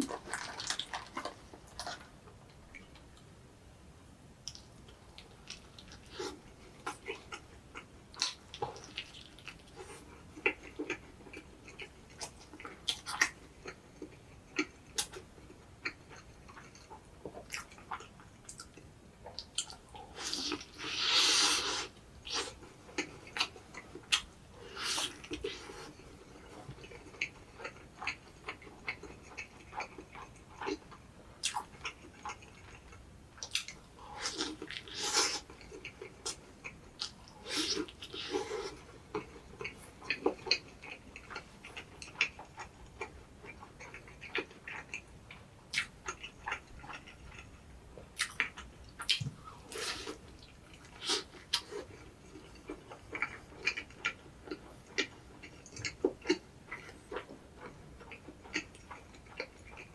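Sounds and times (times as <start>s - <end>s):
person chewing food: 0.0s - 3.3s, 4.4s - 59.9s.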